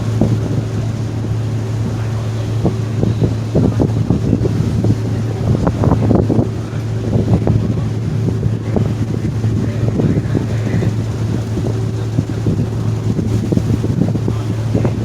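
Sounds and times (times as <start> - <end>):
ferry engines droning: 0.0 - 15.0
wind buffeting microphone: 0.0 - 15.0.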